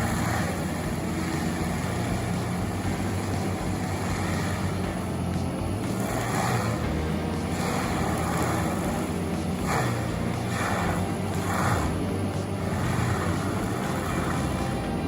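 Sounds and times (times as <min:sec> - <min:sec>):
heavy machine engine running: 0:00.0 - 0:15.0
rushing noise surges: 0:00.0 - 0:15.0.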